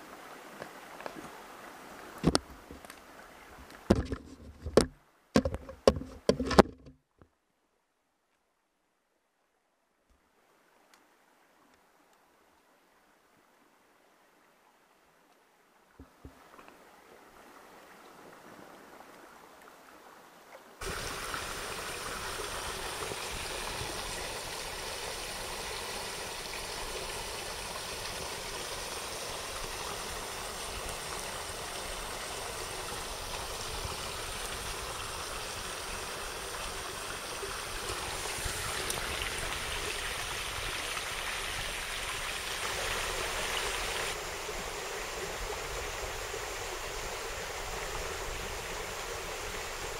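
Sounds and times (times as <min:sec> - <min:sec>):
stream flowing water: 0:00.0 - 0:06.9, 0:09.7 - 0:49.9.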